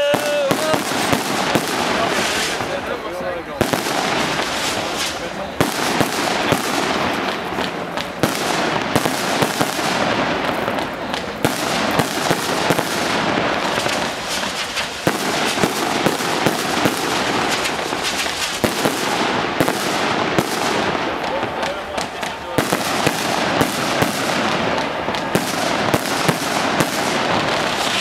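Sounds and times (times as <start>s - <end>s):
fireworks popping and cracking: 0.0s - 28.0s
fireworks tails hissing: 0.0s - 28.0s.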